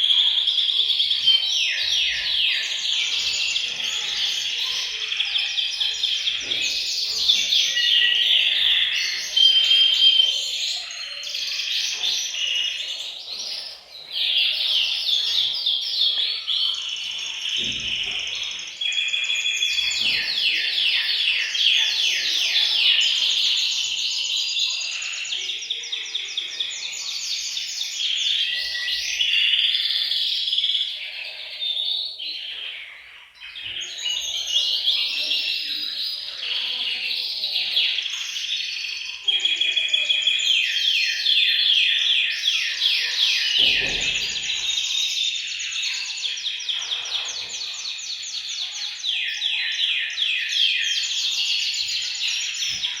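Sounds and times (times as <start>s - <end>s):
canaries singing trills: 0.0s - 53.0s.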